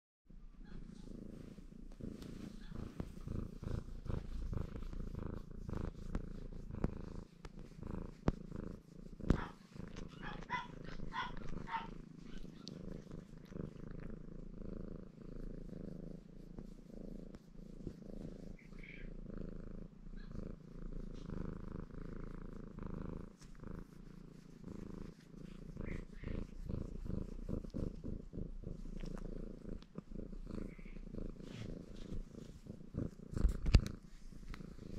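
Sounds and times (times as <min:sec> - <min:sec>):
cat purring: 0:00.3 - 0:34.9.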